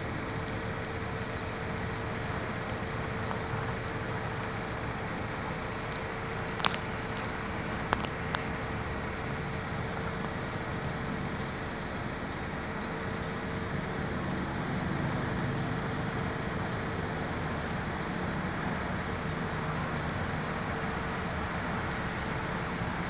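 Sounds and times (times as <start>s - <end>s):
faint high ticks: 0.0s - 14.2s, 18.1s - 22.8s
faint steady hum: 0.0s - 23.0s
low rumble and hiss: 0.0s - 23.0s.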